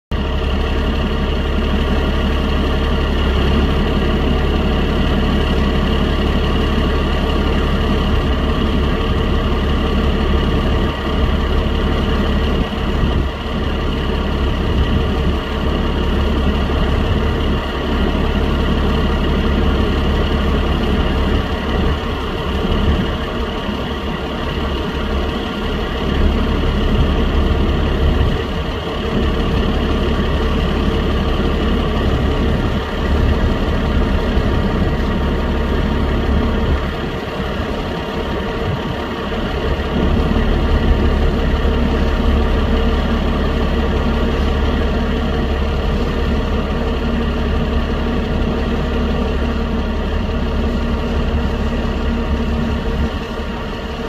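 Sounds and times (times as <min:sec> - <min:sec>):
forage harvester droning: 0:00.1 - 0:54.0.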